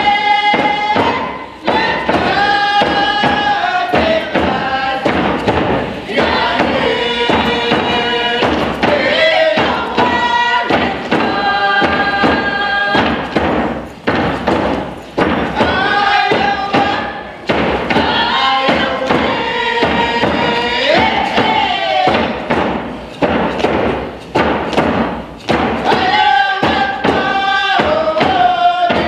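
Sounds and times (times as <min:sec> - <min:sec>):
group singing in unison: 0:00.0 - 0:22.8, 0:25.6 - 0:29.0
hand drum beat: 0:00.0 - 0:29.0.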